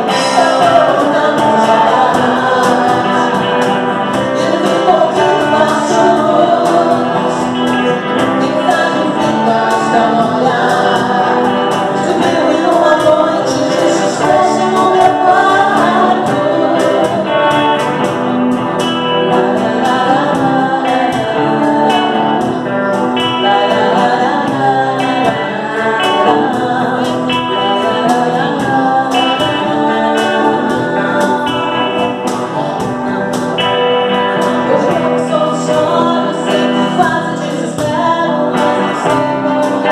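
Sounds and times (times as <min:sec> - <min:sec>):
cajon beat: 0:00.0 - 0:39.9
electric guitar: 0:00.0 - 0:39.9
lead vocals: 0:00.0 - 0:39.9.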